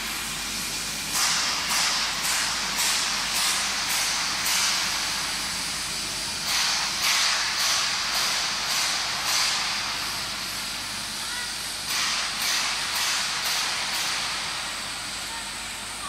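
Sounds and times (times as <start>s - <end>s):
pulsing water spray jets hissing: 0.0s - 16.0s.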